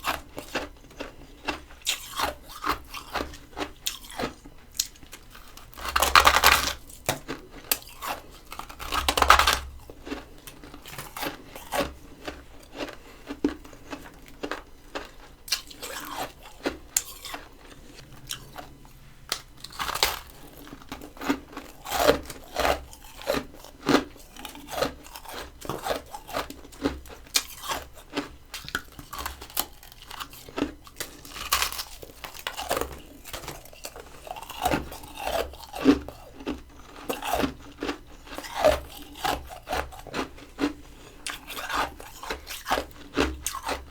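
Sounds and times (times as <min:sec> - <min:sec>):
crunching and chewing frost: 0:00.0 - 0:43.9.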